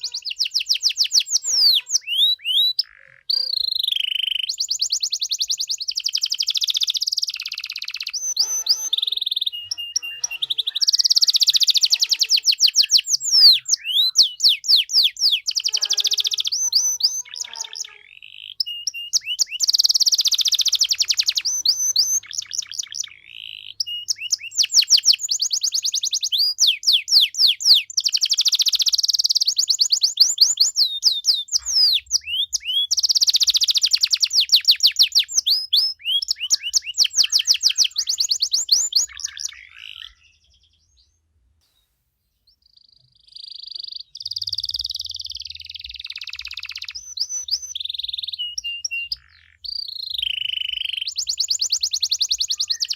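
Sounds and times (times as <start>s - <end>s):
canary singing: 0.0s - 41.1s, 42.4s - 52.9s.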